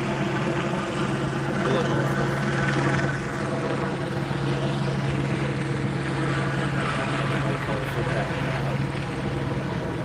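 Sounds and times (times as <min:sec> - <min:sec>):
helicopter hovering drone: 0:00.0 - 0:10.0.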